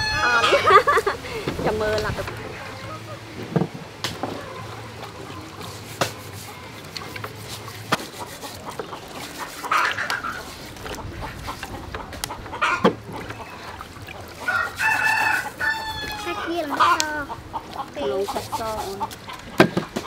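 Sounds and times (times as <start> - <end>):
chicken calls: 0.0 - 1.4, 4.3 - 20.0.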